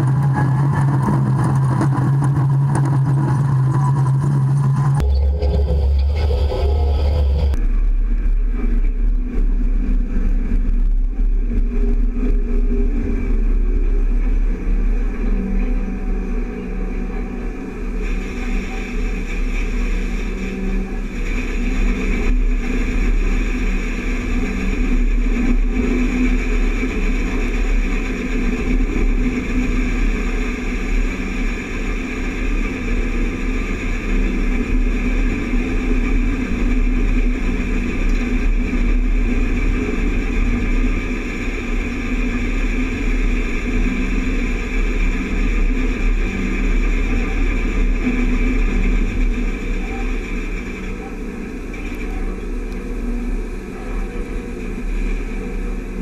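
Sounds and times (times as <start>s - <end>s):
grain cart rumbling: 0.0s - 56.0s.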